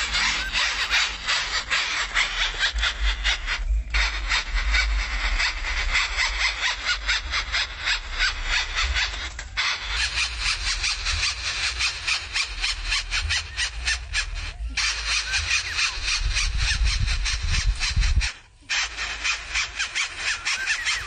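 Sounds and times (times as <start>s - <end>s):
nestlings begging with harsh rasping: 0.0s - 21.0s.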